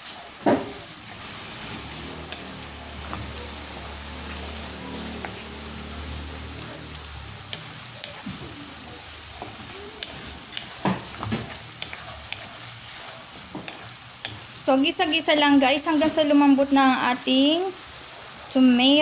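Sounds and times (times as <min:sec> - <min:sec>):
spatula scraping and tapping wok: 0:00.0 - 0:16.4
vegetables sizzling in oil: 0:00.0 - 0:19.0.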